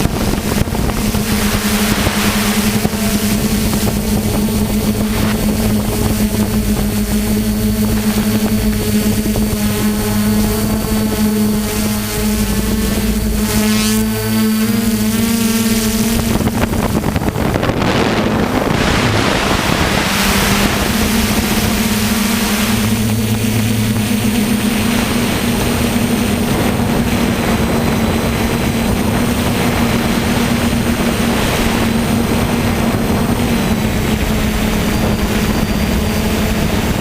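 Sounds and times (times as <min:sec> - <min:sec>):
drone propellers droning: 0:00.0 - 0:37.0
wind buffeting microphone: 0:00.0 - 0:37.0.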